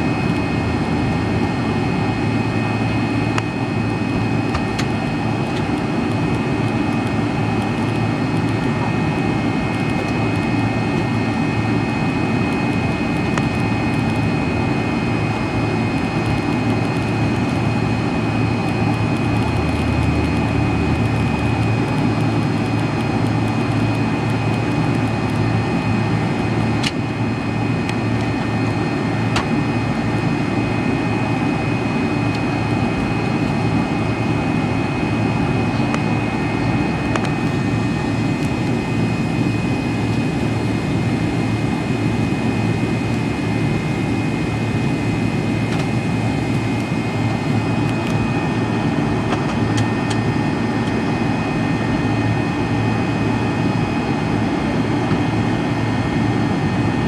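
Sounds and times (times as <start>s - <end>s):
high engine whine: 0.0s - 57.0s
jet engine rumble: 0.0s - 57.0s.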